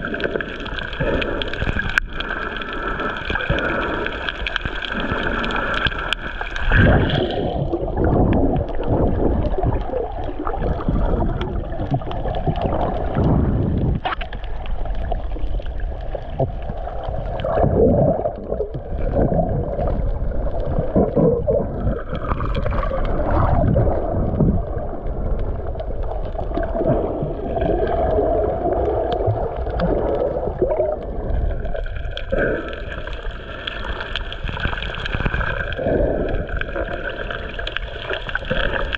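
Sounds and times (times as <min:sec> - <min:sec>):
muffled underwater water rush: 0:00.0 - 0:38.9.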